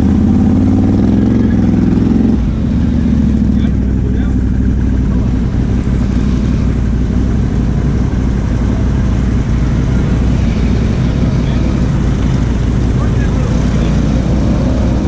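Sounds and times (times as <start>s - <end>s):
atv engine running at low revs: 0.0s - 15.0s.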